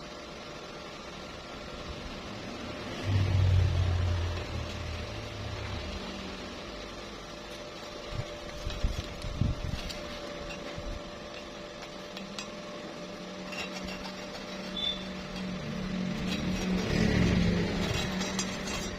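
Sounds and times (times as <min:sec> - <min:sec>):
low hum: 0:01.8 - 0:18.9.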